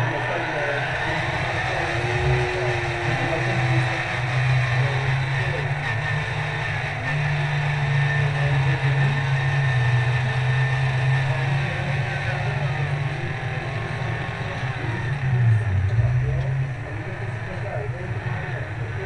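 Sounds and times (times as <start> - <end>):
model truck droning: 0.0 - 19.0.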